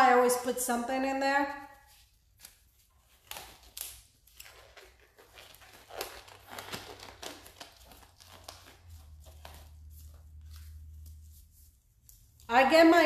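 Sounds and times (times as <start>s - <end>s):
gloves crinkling and rustling: 1.5s - 13.0s.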